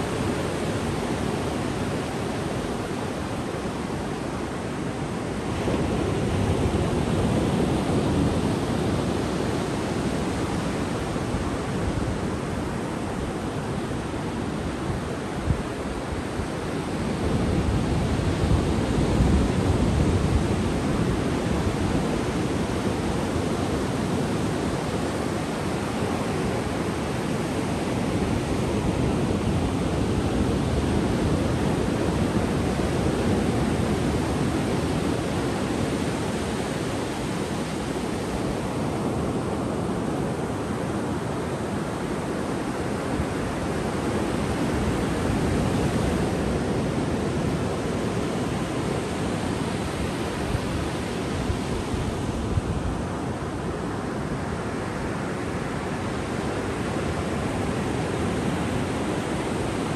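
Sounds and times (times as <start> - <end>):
ocean surf breaking on a beach: 0.0 - 59.9.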